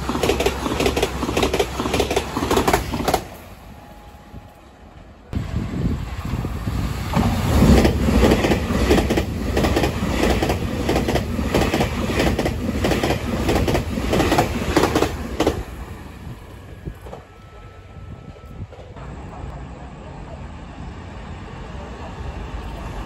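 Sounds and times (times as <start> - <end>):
train passing with rumble: 0.0 - 23.0.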